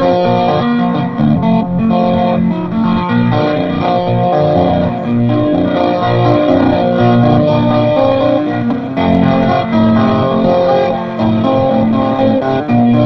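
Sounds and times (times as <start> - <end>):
electric guitar solo: 0.0 - 13.0.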